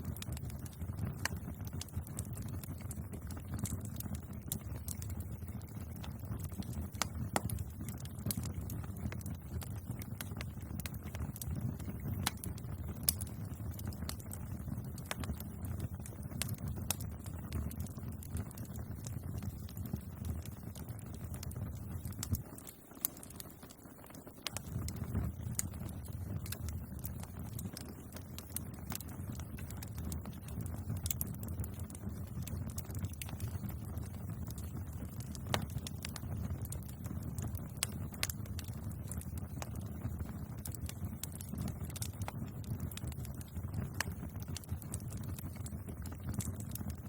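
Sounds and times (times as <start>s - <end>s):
low rumble of burning: 0.0s - 47.0s
wood bonfire crackling: 0.0s - 47.0s.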